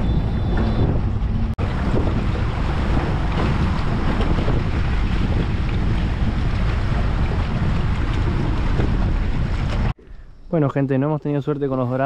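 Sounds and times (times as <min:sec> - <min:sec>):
choppy water splashing: 0:00.0 - 0:10.0
wind buffeting microphone: 0:00.0 - 0:10.0.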